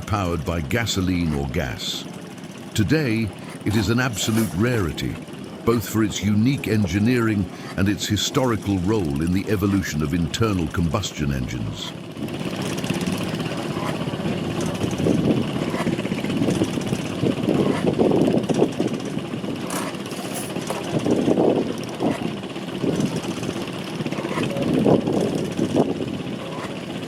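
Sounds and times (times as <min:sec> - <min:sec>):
stationary engine running: 0:00.0 - 0:27.0.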